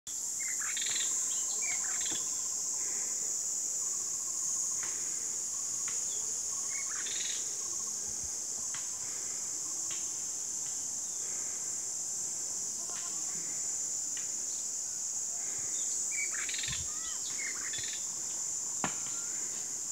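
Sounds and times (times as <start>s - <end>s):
high-pitched insect drone: 0.1s - 19.9s.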